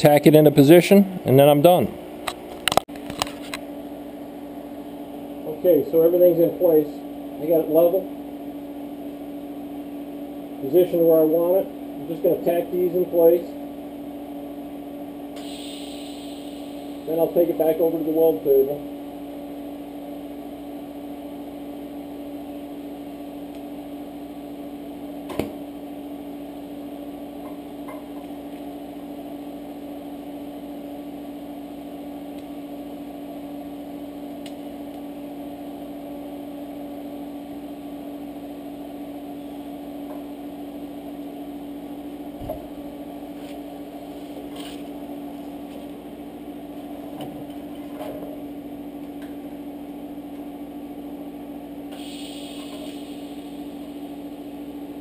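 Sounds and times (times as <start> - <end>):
welder electrical hum: 0.0 - 55.0.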